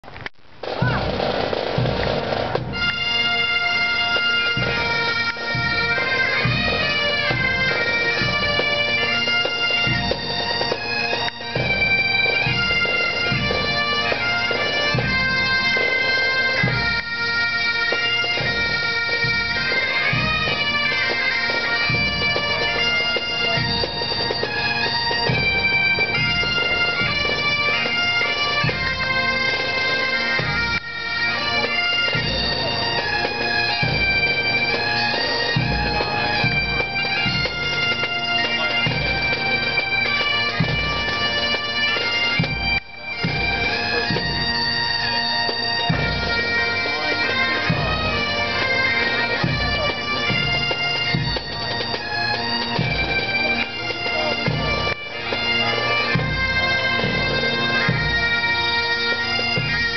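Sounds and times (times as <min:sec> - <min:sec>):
bagpipe playing a tune: 0:00.7 - 0:59.9.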